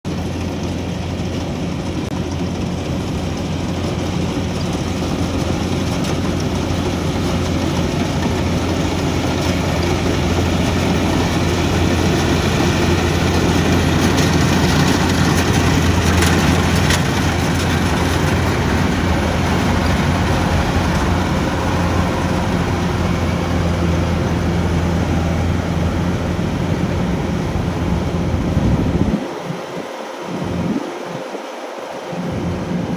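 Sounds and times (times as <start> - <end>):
rice-cutting machine engine running: 0.1 - 30.8.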